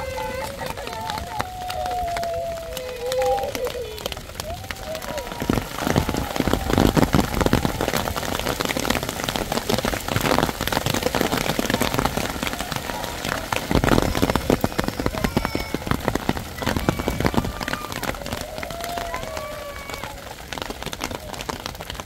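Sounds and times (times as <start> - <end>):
heavy rain pelting down: 0.0 - 22.0.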